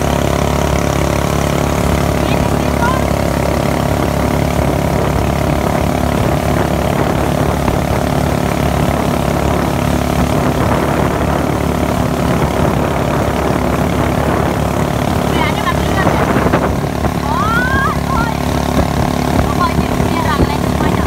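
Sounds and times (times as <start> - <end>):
motorboat engine running: 0.0 - 21.0
water rushing past boat: 0.0 - 21.0
wind rushing: 0.0 - 21.0.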